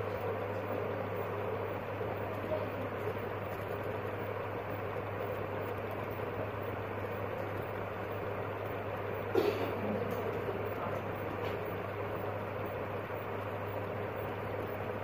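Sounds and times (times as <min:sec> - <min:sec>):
room hum and hiss: 0:00.0 - 0:15.0.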